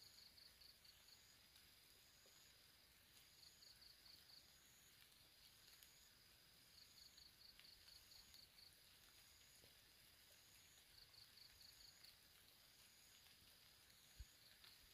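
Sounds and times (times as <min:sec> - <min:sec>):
insects chirping: 0:00.0 - 0:14.9.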